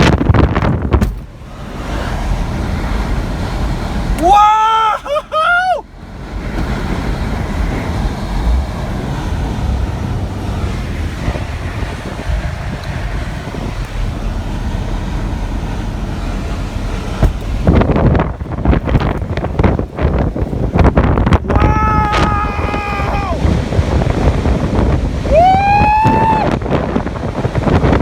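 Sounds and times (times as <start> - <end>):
storm wind buffeting microphone: 0.0 - 28.0.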